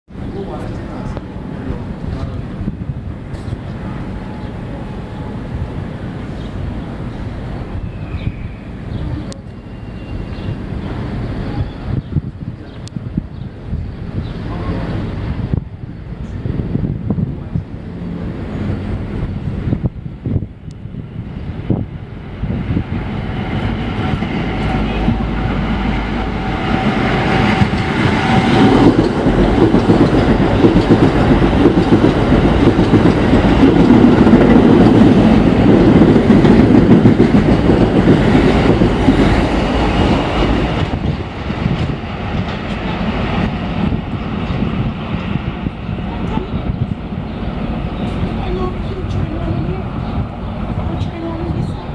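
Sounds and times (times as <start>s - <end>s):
subway train wheels rumbling: 0.1s - 51.9s.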